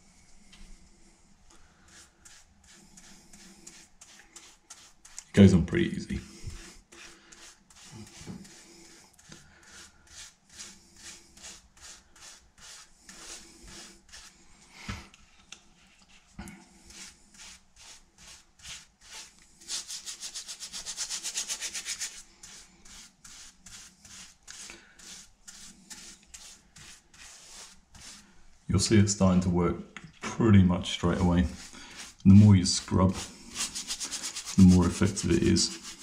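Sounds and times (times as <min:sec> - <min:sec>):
paintbrush brushing on wood: 0:01.8 - 0:14.4, 0:15.8 - 0:28.4, 0:30.8 - 0:36.0.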